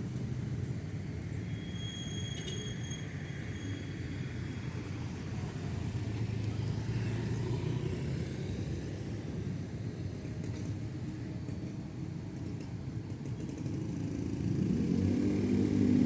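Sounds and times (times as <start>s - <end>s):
road traffic passing: 3.1s - 16.0s.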